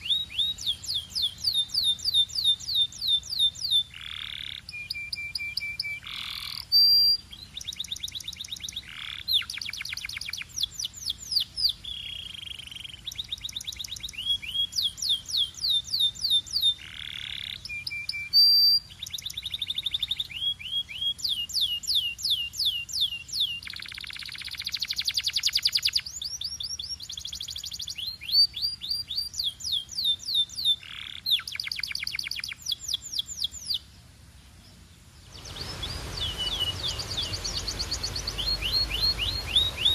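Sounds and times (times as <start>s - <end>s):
canary singing trills: 0.0s - 33.9s, 35.2s - 39.9s.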